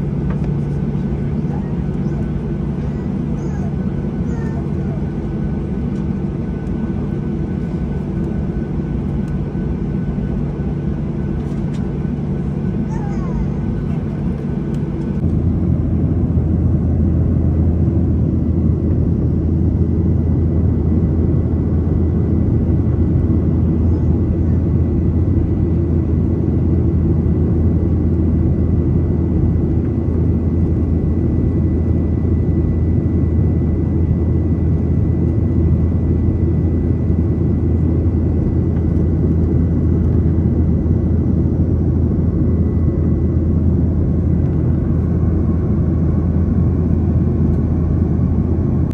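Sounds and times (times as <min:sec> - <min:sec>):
jet engine drone in cabin: 0:00.0 - 0:48.9
steady high whine: 0:00.0 - 0:48.9.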